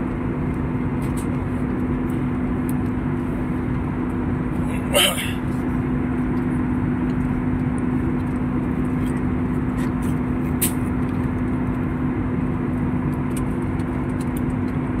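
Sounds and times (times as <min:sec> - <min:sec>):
airliner cabin drone: 0:00.0 - 0:15.0
constant low hum: 0:00.0 - 0:15.0.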